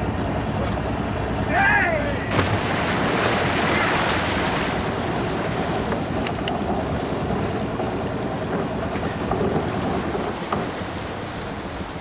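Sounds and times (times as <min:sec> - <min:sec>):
churning wake water: 0:00.0 - 0:12.0
wind: 0:00.0 - 0:12.0.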